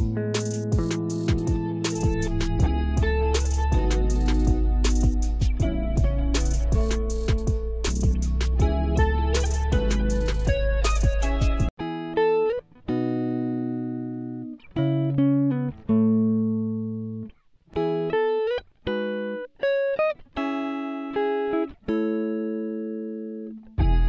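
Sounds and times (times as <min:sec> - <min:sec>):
slow plucked melody: 0:00.0 - 0:24.0.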